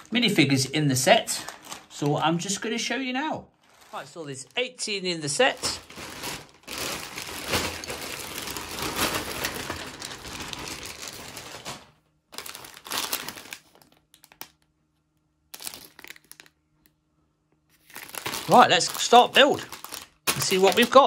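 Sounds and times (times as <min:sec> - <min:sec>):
plastic packets crinkling: 0:01.0 - 0:02.6, 0:03.6 - 0:14.7, 0:15.5 - 0:16.6, 0:17.7 - 0:21.0.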